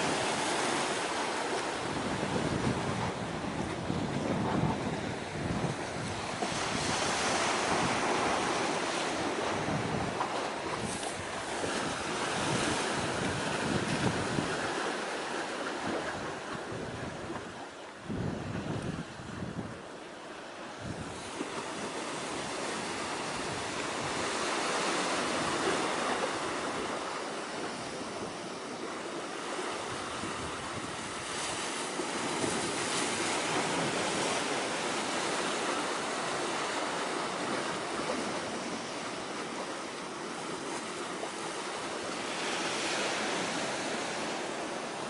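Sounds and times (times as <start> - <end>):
sea waves washing ashore: 0.0 - 45.0
wind: 0.0 - 45.0.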